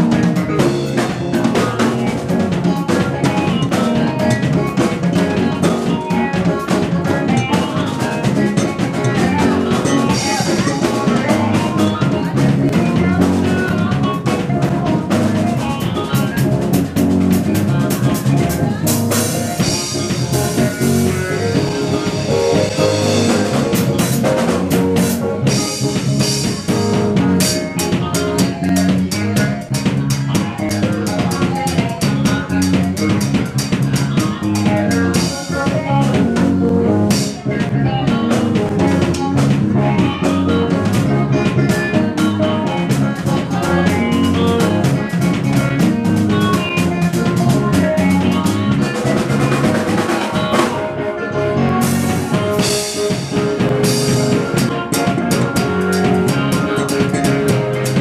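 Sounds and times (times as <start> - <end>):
band playing: 0.0 - 58.0.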